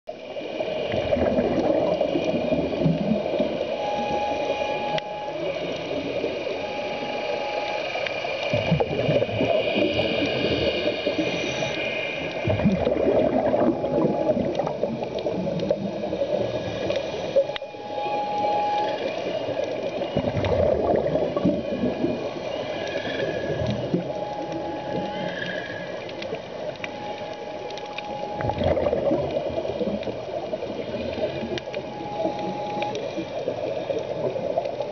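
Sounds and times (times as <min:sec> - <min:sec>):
faint steady whine: 0:00.1 - 0:34.9
underwater air bubbles gurgling: 0:00.1 - 0:34.9.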